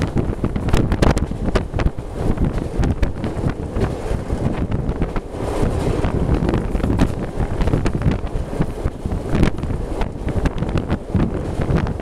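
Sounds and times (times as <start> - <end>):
train rumble: 0.0 - 12.0
wheels knocking and clattering: 0.0 - 12.0
wind buffeting microphone: 0.0 - 12.0.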